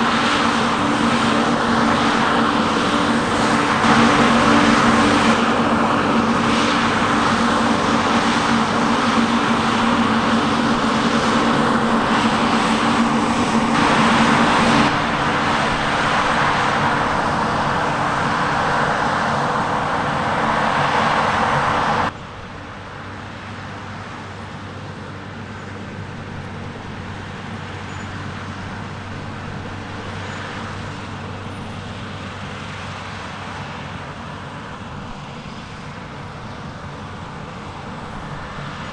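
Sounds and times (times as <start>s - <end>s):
diesel machinery engine hum: 0.0s - 38.9s.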